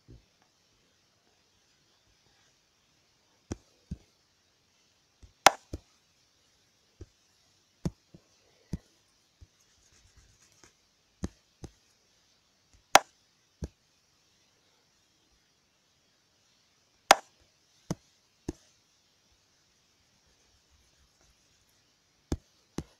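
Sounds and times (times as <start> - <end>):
faint steady hiss: 0.0 - 22.9.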